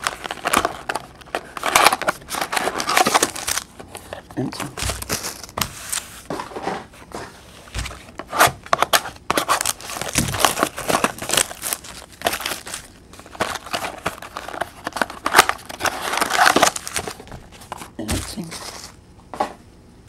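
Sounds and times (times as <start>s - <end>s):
wrapper rustling and crackling: 0.0s - 6.4s, 7.4s - 19.0s.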